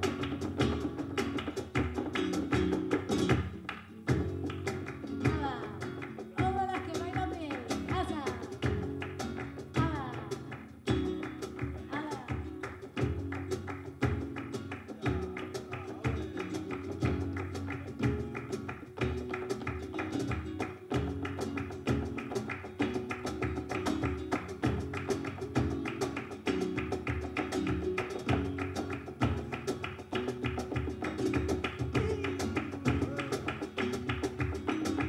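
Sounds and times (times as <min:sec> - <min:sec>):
dancer's shoes striking stage: 0:00.0 - 0:35.0
flamenco guitar playing: 0:00.0 - 0:35.0
hand percussion: 0:00.0 - 0:35.0.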